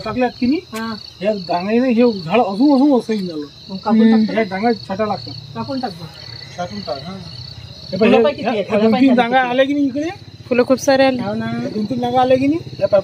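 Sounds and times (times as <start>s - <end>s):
crickets chirping: 0.0s - 13.0s
voices talking: 0.0s - 13.0s.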